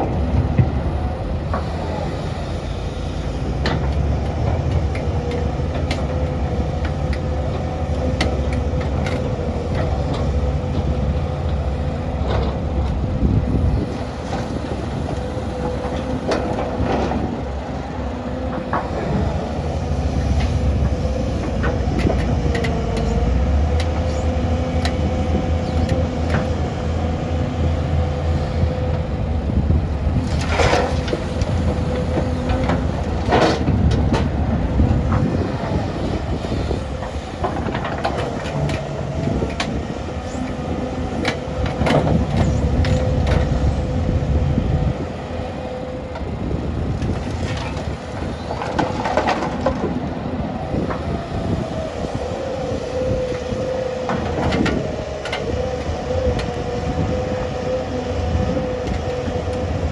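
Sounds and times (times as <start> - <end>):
excavator diesel engine running: 0.0 - 59.9
steady whining tone: 0.0 - 59.9.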